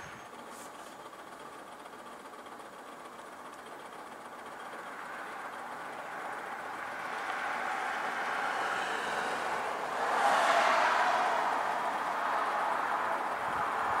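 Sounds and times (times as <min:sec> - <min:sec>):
diesel freight train approaching: 0:00.0 - 0:14.0.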